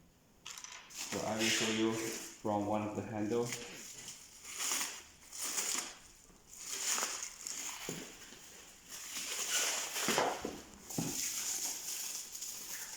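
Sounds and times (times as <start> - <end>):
rustling and crinkling: 0.9 - 12.9.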